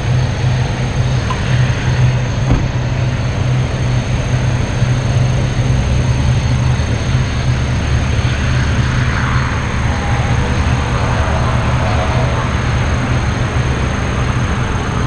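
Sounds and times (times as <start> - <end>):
jet engine rumble and hiss: 0.0 - 15.0.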